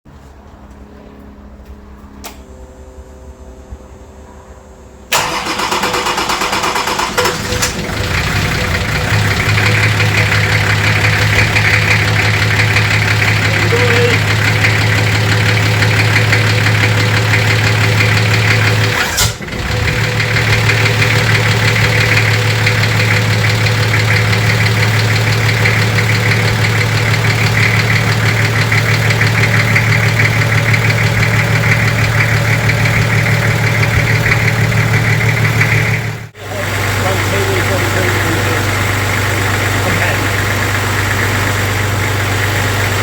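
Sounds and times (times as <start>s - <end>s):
diesel engine running: 4.8s - 43.0s.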